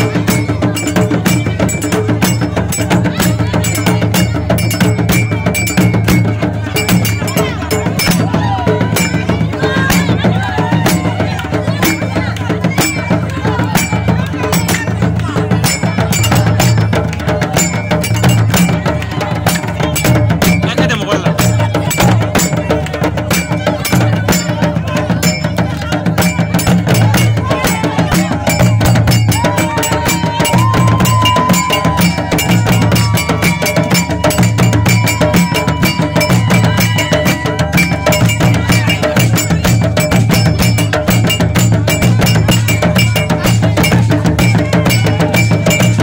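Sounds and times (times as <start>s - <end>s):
hand drums fast rhythm: 0.0s - 46.0s
metallic clanking percussion: 0.0s - 46.0s.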